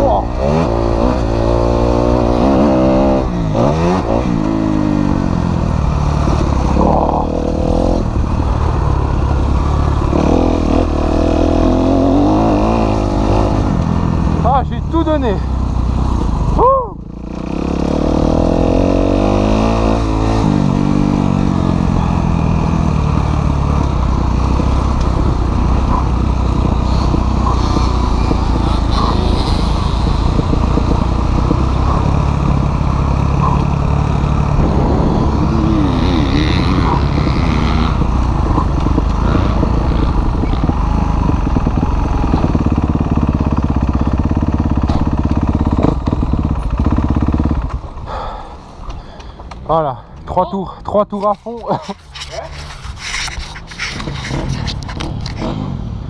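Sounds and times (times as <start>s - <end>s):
motocross engine revving: 0.0s - 49.4s.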